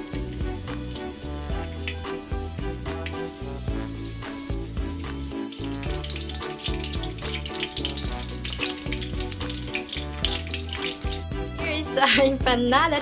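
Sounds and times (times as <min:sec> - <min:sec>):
food frying in bubbling oil: 0:00.0 - 0:11.5
background music: 0:00.0 - 0:13.0.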